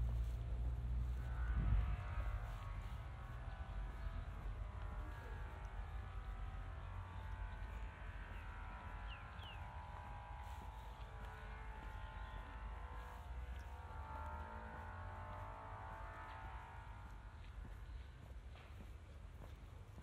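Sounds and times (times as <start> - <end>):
low street rumble: 0.0 - 20.0.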